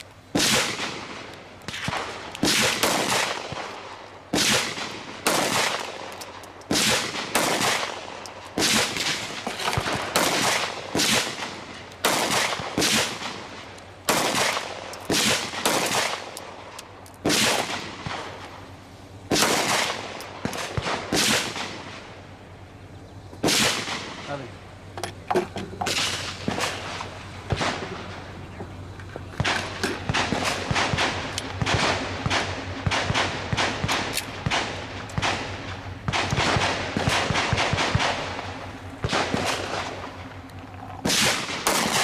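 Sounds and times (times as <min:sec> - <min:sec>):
gunshots echoing: 0:00.3 - 0:22.4, 0:23.4 - 0:24.9, 0:25.7 - 0:42.0.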